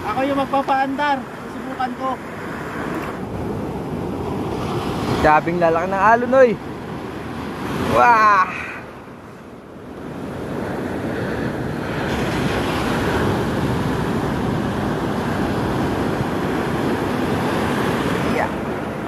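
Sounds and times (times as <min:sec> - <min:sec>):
surf: 0:00.0 - 0:19.0
wind rushing over microphone: 0:00.0 - 0:19.0.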